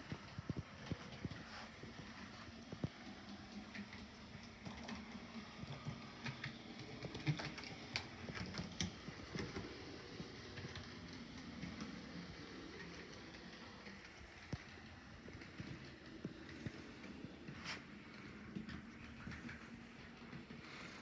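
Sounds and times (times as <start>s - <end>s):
faint motor hum: 0.0s - 21.0s
model train wheels clicking: 0.0s - 21.0s.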